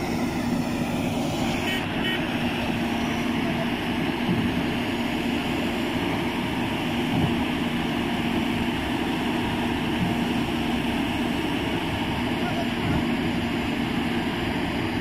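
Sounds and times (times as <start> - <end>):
concrete pump engine running: 0.0 - 15.0.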